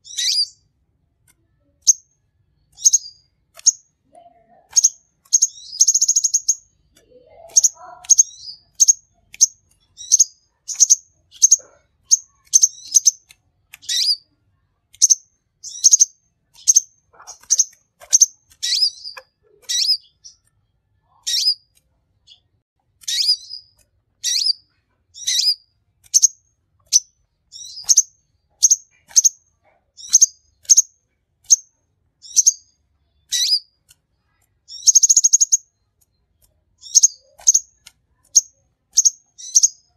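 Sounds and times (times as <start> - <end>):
buzzy bird trill: 0.0 - 0.6, 2.7 - 3.9, 4.5 - 14.3, 14.9 - 21.7, 23.0 - 33.8, 34.7 - 35.9, 36.8 - 39.9
sunbird chirping: 0.0 - 0.6, 1.8 - 3.9, 4.5 - 14.3, 15.0 - 20.5, 22.3 - 30.9, 31.5 - 33.7, 34.6 - 39.9.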